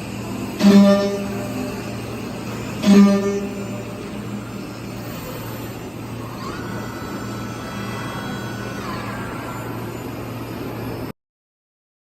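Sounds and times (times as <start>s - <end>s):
machine humming: 0.0s - 11.1s
machine whine: 0.0s - 11.2s.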